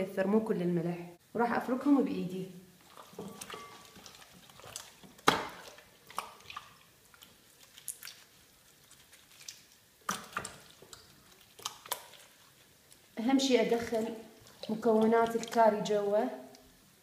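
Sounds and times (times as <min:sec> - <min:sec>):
squelches and slaps of marinating: 0:02.8 - 0:16.7.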